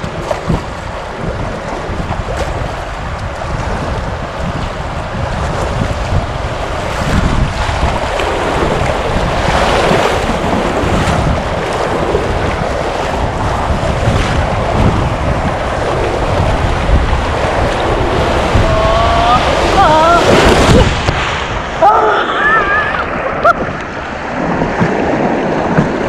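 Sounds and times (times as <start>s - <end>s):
river water rushing and splashing: 0.0s - 26.0s
wind buffeting microphone: 0.0s - 26.0s.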